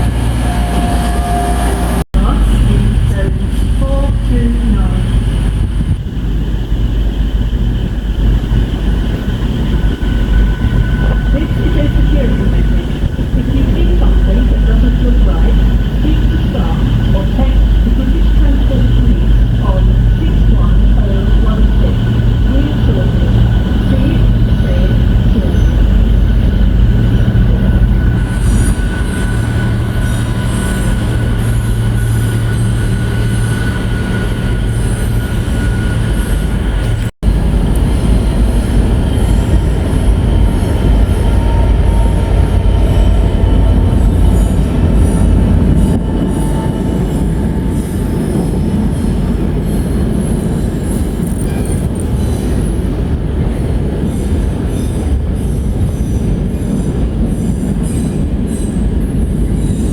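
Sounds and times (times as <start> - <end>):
wheels squealing on rails: 0.0 - 2.0, 3.8 - 59.9
train rumble and hum: 0.0 - 59.9.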